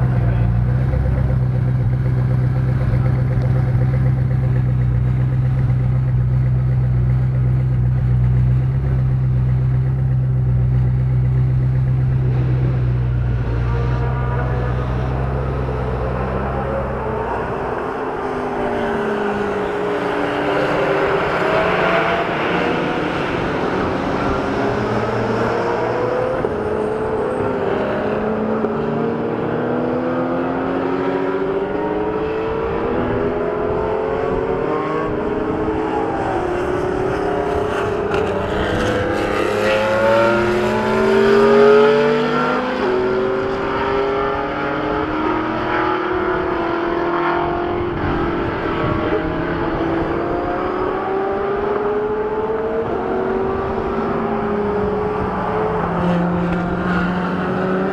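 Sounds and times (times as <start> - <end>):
car engines accelerating hard: 0.0 - 57.9.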